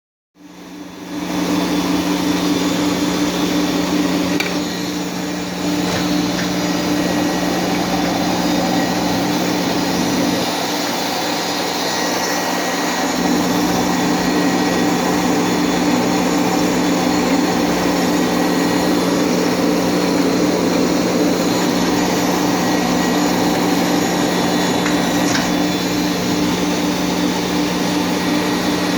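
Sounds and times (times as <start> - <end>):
grinder motor hum: 0.6 - 28.9
grinding hiss: 3.3 - 28.9.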